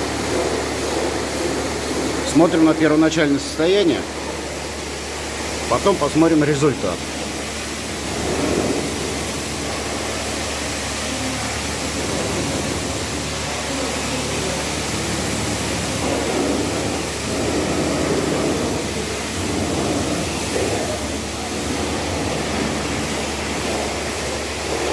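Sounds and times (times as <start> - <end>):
car wash rushing noise: 0.0 - 24.9.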